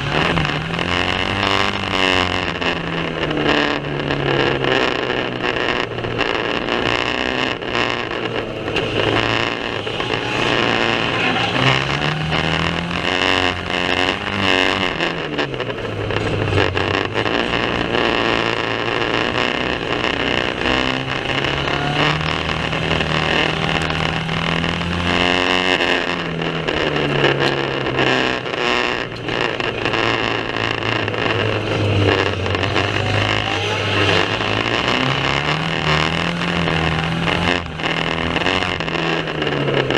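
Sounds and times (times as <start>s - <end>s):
racing car engines revving: 0.0s - 39.9s.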